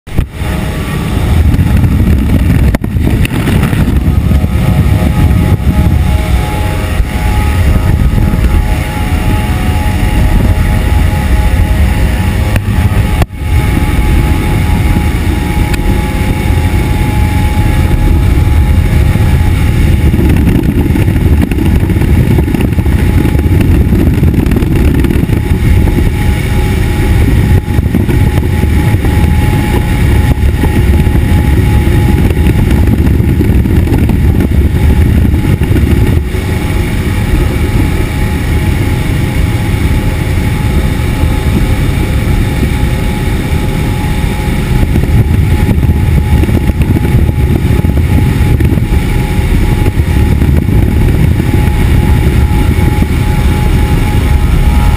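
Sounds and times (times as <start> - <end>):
turboprop engines droning: 0.1 - 54.9
wind rushing: 0.1 - 54.9.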